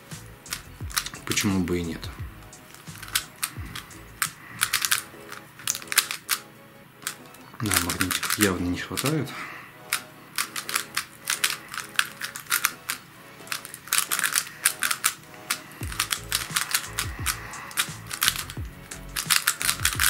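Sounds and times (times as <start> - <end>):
quiet background music: 0.0 - 20.0
puzzle cube clicking: 0.2 - 9.2, 9.8 - 20.0.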